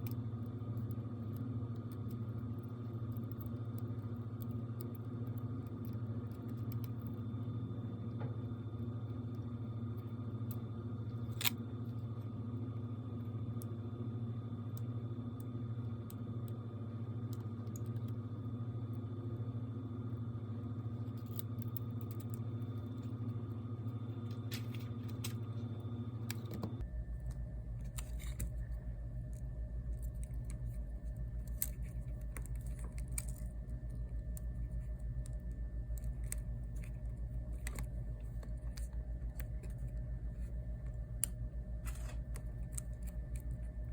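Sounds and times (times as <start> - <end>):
electrical hum: 0.0 - 43.9.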